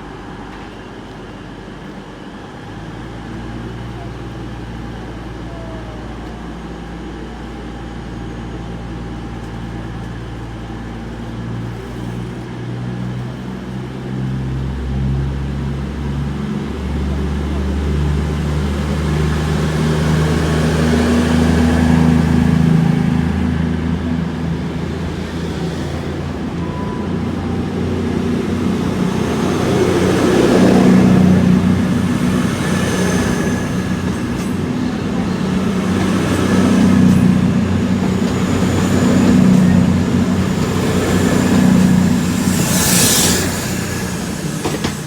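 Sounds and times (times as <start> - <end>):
diesel train engines running: 0.0 - 45.0.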